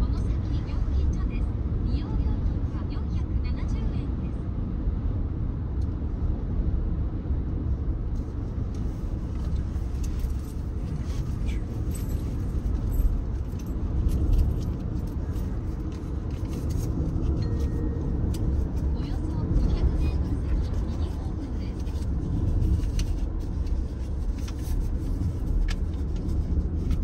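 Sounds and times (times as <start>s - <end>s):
road and engine rumble in car: 0.0s - 27.0s.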